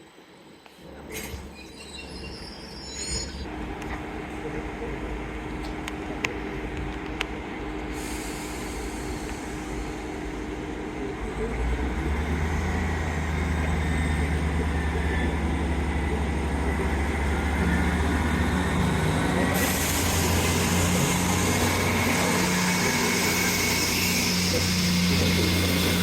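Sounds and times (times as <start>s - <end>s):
train rumbling: 3.1s - 26.0s.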